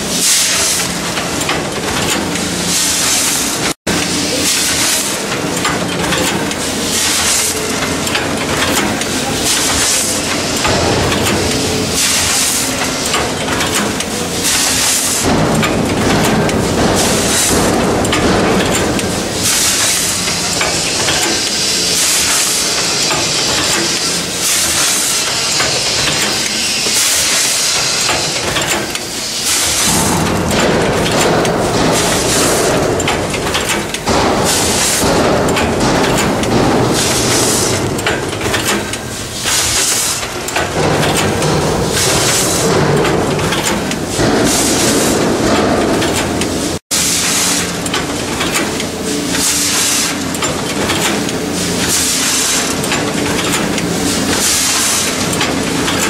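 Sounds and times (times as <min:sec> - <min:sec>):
bagging machine running: 0:00.0 - 0:56.0
machine hissing: 0:00.0 - 0:56.0.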